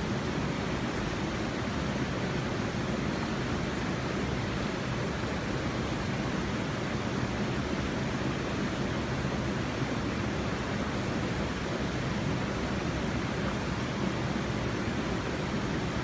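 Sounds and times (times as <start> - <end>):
river water flowing over a weir: 0.0 - 16.0.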